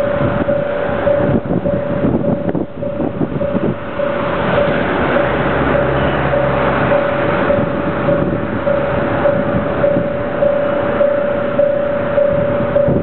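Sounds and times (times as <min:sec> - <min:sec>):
pulsing tone: 0:00.0 - 0:13.0
stationary train humming: 0:00.0 - 0:13.0.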